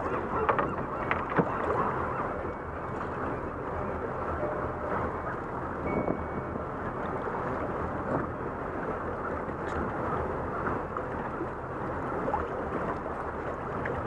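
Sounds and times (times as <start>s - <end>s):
low steady hum: 0.0s - 14.0s
water sloshing against boat hull: 0.0s - 14.0s
wind buffeting microphone: 0.0s - 14.0s.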